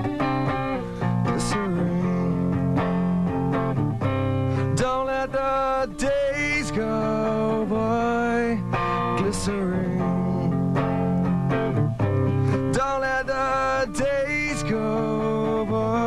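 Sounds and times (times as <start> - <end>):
rock song with guitar: 0.0 - 16.0.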